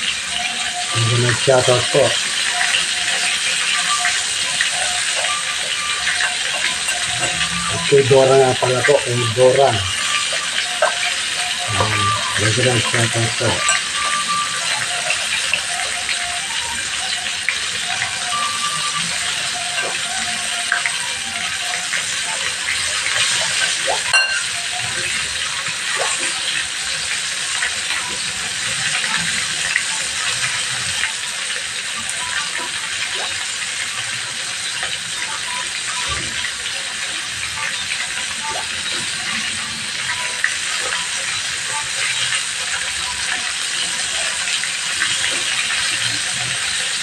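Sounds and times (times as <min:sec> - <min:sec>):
chicken sizzling in hot oil: 0:00.0 - 0:47.0.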